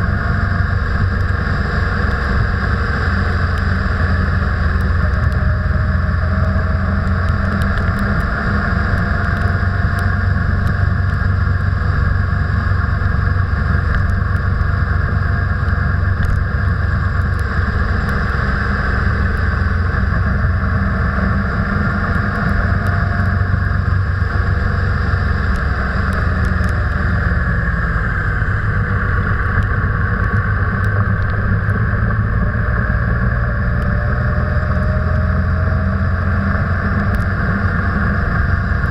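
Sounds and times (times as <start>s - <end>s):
vehicle engine and road noise: 0.0s - 38.9s.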